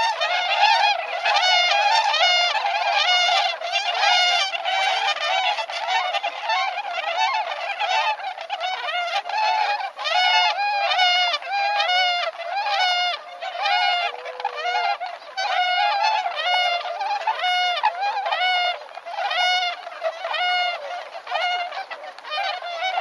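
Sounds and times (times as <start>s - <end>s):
swans calling: 0.0s - 23.0s.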